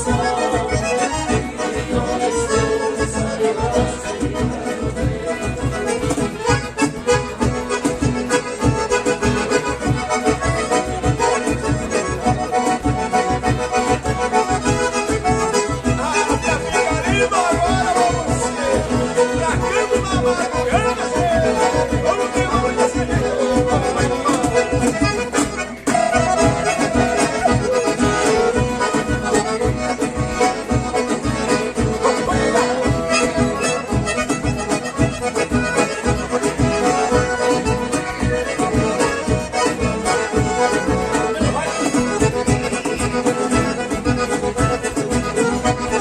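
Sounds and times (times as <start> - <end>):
accordion dance music: 0.0 - 46.0.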